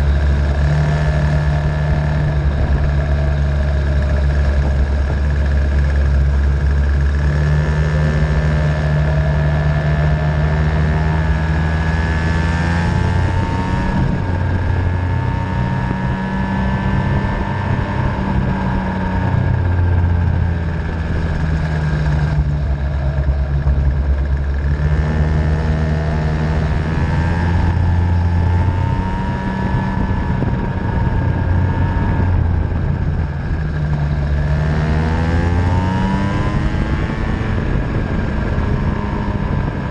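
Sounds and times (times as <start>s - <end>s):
racing engine revving: 0.0s - 39.9s
steady low rumble: 0.0s - 39.9s.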